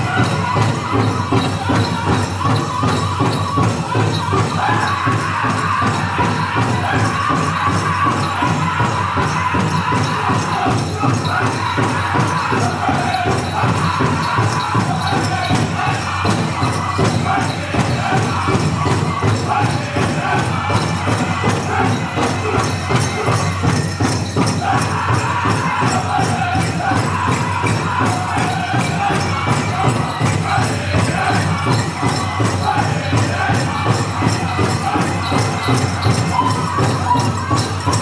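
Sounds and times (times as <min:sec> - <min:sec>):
steady drum beat: 0:00.0 - 0:38.0.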